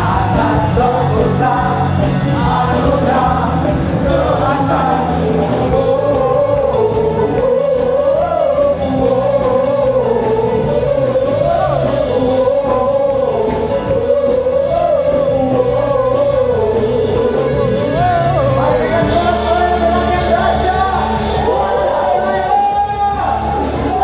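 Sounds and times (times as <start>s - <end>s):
band playing: 0.0s - 24.0s
voices singing: 0.0s - 24.0s.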